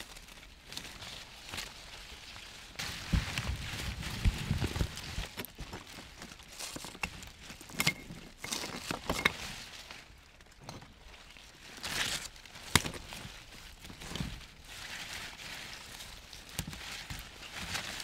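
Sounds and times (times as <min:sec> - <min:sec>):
leaves rustling: 0:00.0 - 0:18.0.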